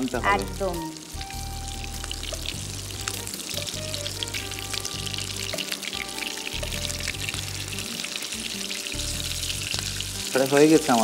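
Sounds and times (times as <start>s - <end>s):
background music with bass: 0.0s - 10.4s
meatballs sizzling in oil: 0.0s - 11.0s.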